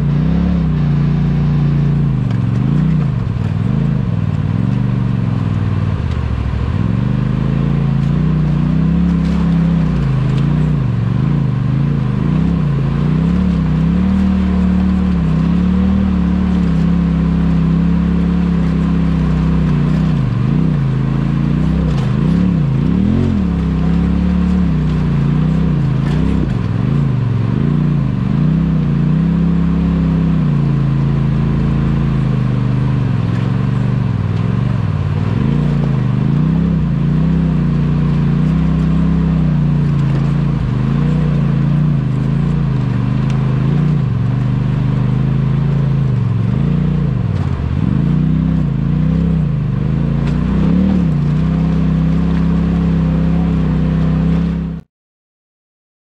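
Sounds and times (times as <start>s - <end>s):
vehicle engine revving: 0.0s - 54.8s.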